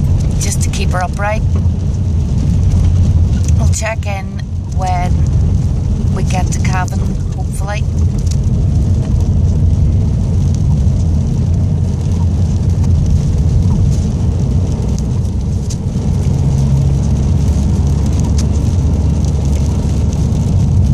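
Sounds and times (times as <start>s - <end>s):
vehicle road rumble: 0.0s - 20.9s.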